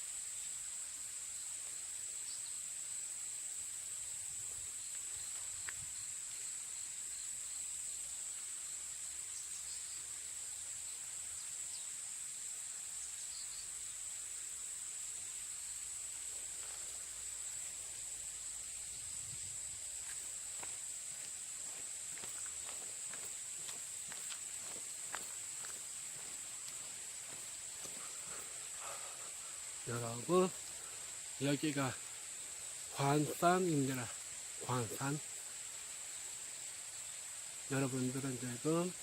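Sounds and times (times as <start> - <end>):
insect chorus drone: 0.0 - 39.0.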